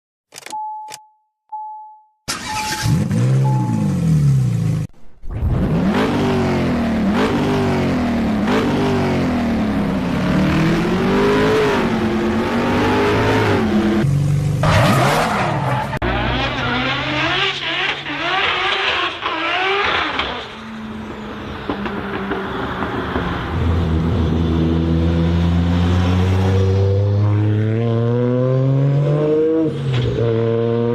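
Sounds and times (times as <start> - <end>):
car engines revving: 2.3 - 30.9.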